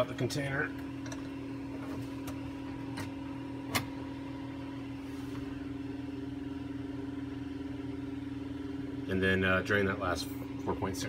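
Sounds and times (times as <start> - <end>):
mechanical hum with pitched tone: 0.0 - 11.0.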